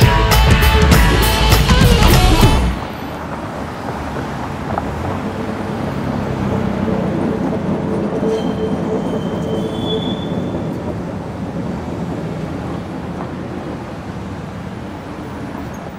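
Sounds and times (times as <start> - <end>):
train rumbling on rails: 0.0 - 15.9.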